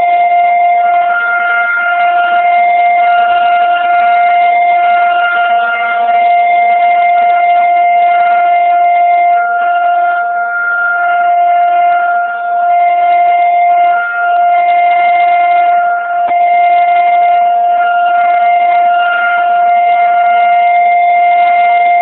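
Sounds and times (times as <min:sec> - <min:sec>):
warning siren steady tone: 0:00.0 - 0:22.0.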